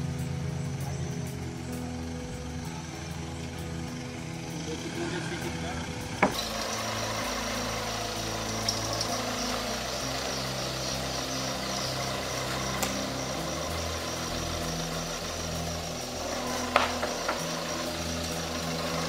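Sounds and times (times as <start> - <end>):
vehicle engines low rumble: 0.0 - 19.0.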